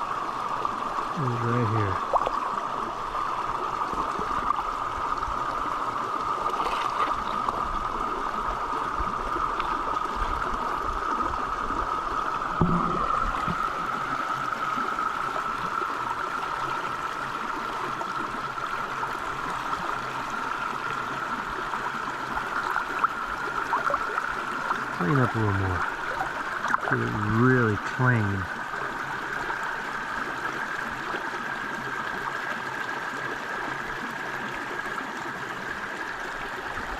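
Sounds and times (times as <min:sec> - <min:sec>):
creek water gurgling: 0:00.0 - 0:36.9.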